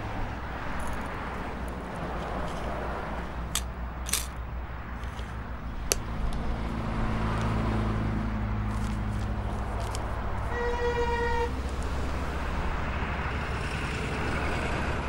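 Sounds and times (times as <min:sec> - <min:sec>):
street traffic hum: 0:00.0 - 0:15.0.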